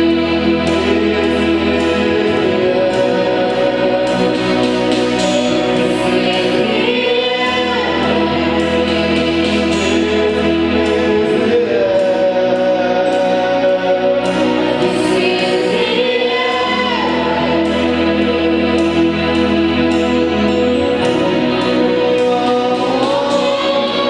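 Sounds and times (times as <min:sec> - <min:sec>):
bass line: 0:00.0 - 0:24.0
choir singing gospel music: 0:00.0 - 0:24.0.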